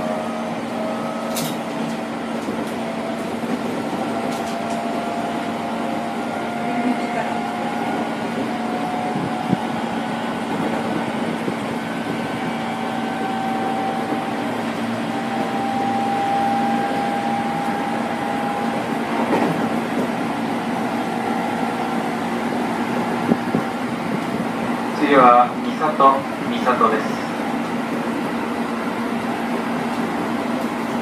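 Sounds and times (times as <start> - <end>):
train motor whine: 0.0 - 26.2
wheels on rail: 0.0 - 31.0.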